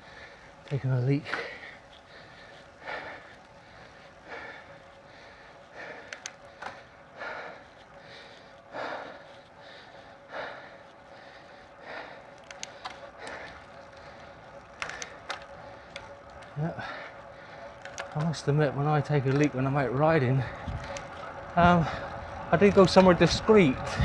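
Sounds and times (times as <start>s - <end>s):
heavy breathing: 0.0s - 24.0s
light clicks: 0.2s - 24.0s.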